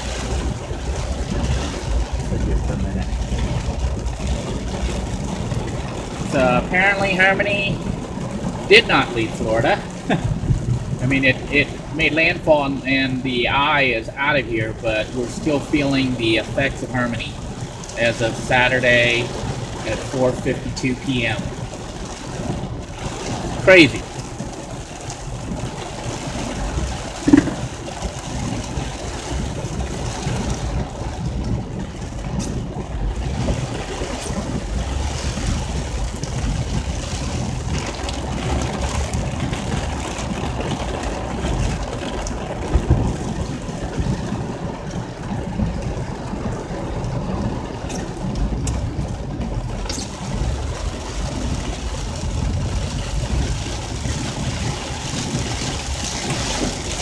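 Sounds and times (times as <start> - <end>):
deep rumble: 0.0 - 57.0
storm rain and wind on car: 0.0 - 57.0.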